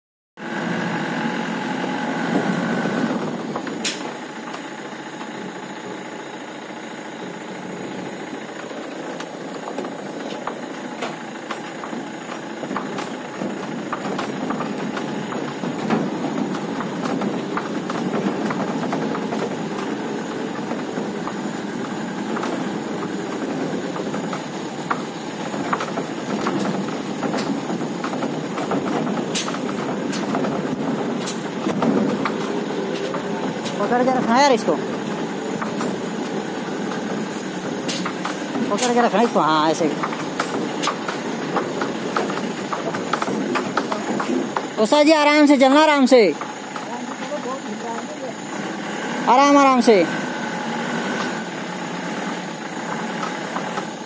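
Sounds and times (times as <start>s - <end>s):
vehicle engine running: 0.4s - 54.0s
truck bed rattling and knocking: 0.6s - 54.0s.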